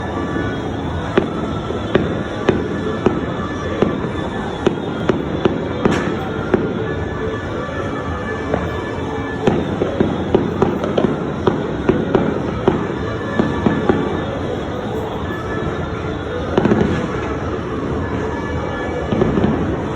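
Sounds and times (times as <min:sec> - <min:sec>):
firework bangs: 0:00.0 - 0:15.6, 0:16.5 - 0:18.3
fireworks crackling: 0:00.0 - 0:19.9.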